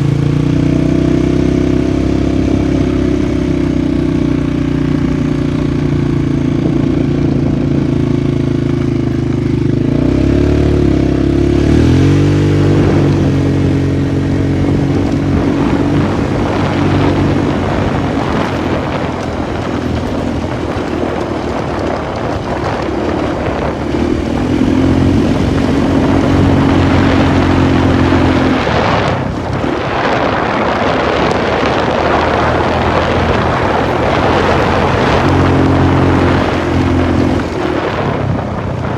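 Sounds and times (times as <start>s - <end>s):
atv engine revving: 0.0s - 38.9s
rough rushing noise: 0.0s - 38.9s.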